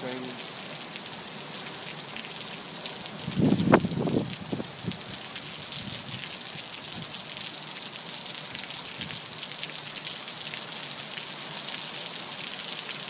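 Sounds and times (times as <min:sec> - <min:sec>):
raindrops ticking on surface: 0:00.0 - 0:13.0
steady rain hiss: 0:00.0 - 0:13.0.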